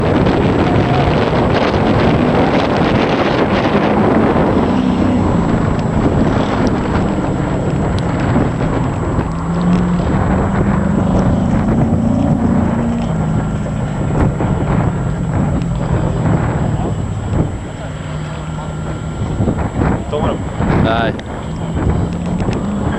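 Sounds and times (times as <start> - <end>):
car engine running: 0.0 - 22.9
wind noise on microphone: 0.0 - 22.9.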